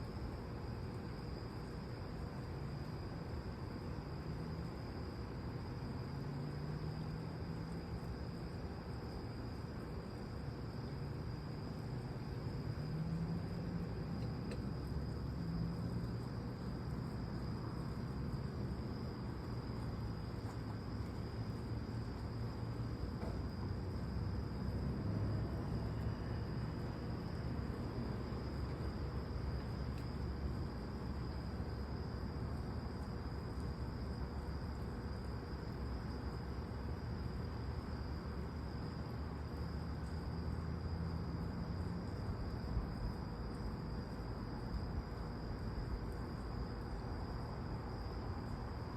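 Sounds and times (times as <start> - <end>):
crickets trilling: 0.0 - 48.9
low steady rumble: 5.5 - 48.9.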